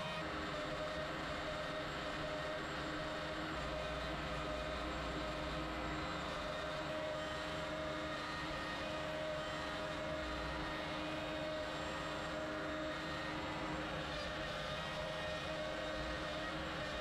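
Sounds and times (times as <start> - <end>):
router spindle cutting wood: 0.0 - 17.0.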